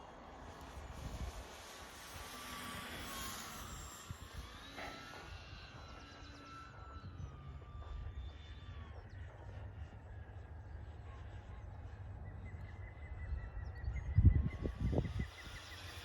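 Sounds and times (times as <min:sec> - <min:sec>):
model plane motor and propeller whining: 0:00.0 - 0:16.0.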